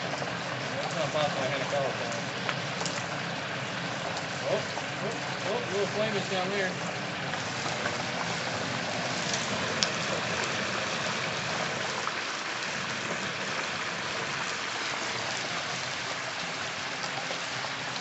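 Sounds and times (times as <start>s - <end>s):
hot oil bubbling and sizzling: 0.0s - 18.0s.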